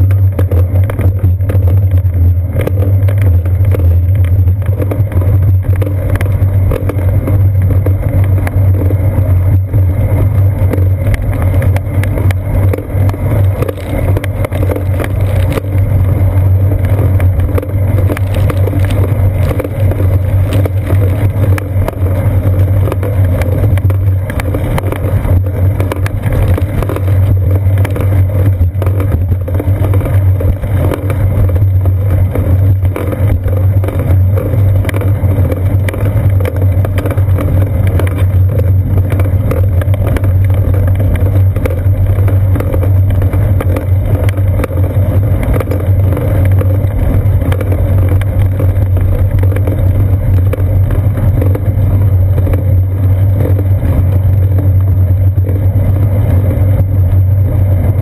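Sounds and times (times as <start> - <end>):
bicycle rolling on paved road: 0.0 - 58.0.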